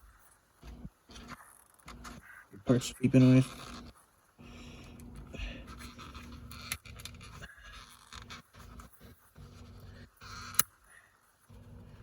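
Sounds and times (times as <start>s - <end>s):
plastic scraping and scratching: 0.2s - 4.2s, 4.8s - 10.8s.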